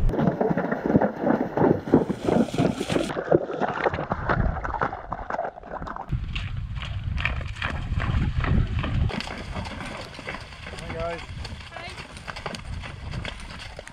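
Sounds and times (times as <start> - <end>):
wind rumbling on microphone: 0.0 - 3.3, 5.9 - 13.9
hooves splashing through water: 0.0 - 13.9.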